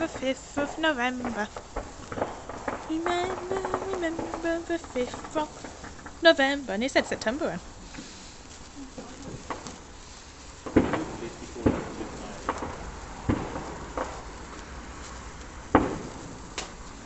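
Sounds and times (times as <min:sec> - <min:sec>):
fireworks exploding: 0:00.0 - 0:17.0.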